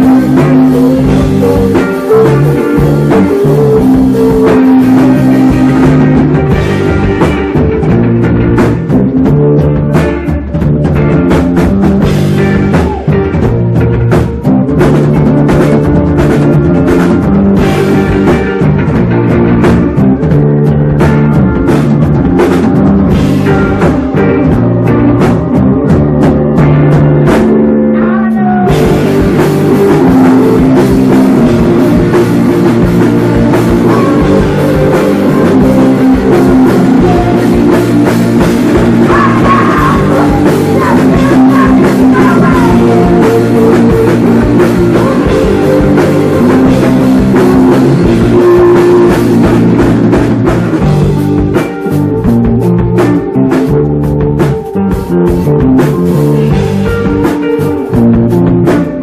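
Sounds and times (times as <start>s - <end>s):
drum kit: 0.0s - 59.0s
electric guitar: 0.0s - 59.0s.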